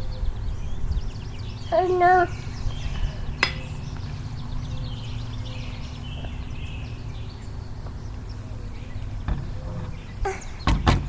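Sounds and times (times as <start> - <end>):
low wind rumble: 0.0 - 11.0
small birds chirping: 0.0 - 11.0.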